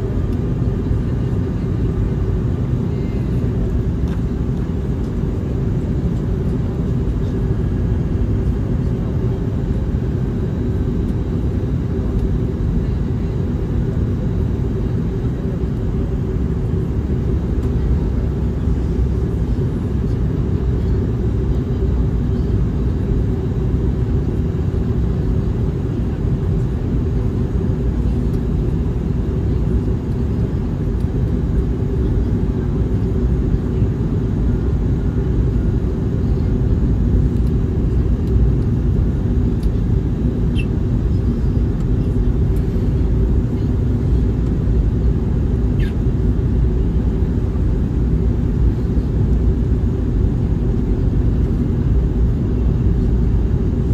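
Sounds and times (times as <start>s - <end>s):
airplane cabin rumble: 0.0s - 53.9s
faint steady hum: 0.0s - 53.9s.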